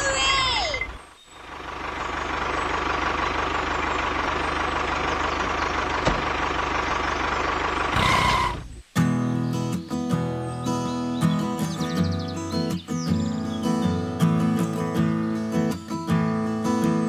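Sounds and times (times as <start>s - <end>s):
diesel tractor engine running: 0.0s - 8.9s, 10.4s - 17.0s.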